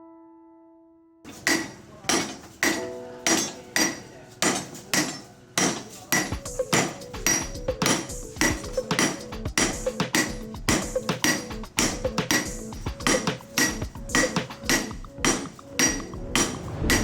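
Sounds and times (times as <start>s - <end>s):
hammer striking steel on anvil: 1.3s - 17.0s.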